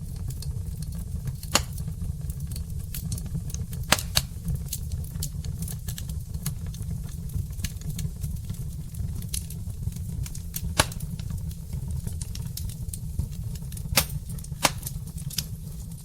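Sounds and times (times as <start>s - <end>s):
fire low rumble: 0.0s - 16.0s
logs crackling in fireplace: 0.0s - 16.0s.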